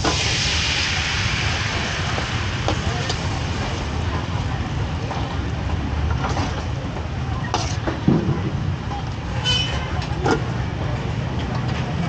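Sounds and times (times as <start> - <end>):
low market rumble: 0.0 - 12.0.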